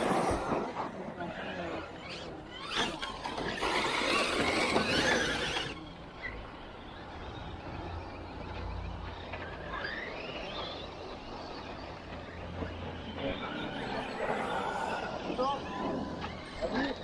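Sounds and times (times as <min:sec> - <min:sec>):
rc truck motor whine: 0:00.0 - 0:17.0.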